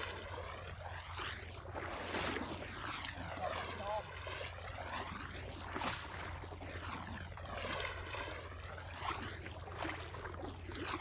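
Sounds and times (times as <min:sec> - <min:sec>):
small water splashes: 0:00.0 - 0:11.0
wading through water: 0:00.0 - 0:11.0.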